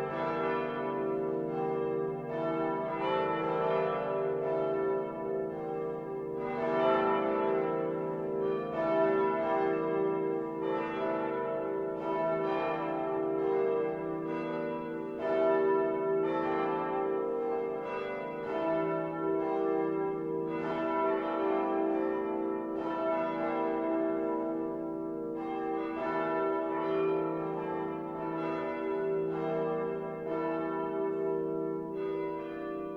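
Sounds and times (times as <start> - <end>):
church bells ringing: 0.0 - 32.9.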